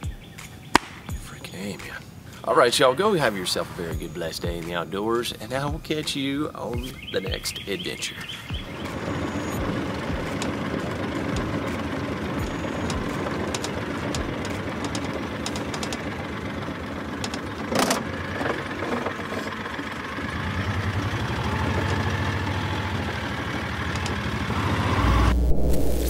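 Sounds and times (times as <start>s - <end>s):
off-road vehicle engine: 0.7s - 26.0s.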